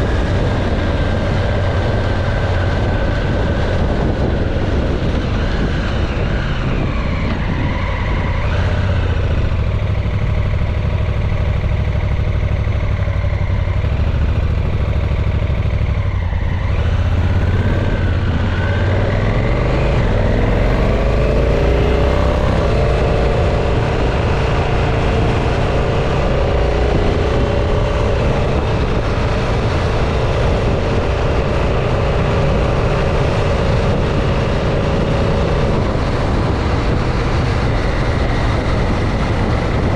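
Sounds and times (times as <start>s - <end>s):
wind rush over microphone: 0.0s - 11.3s, 12.7s - 39.9s
motorcycle engine: 0.0s - 39.9s.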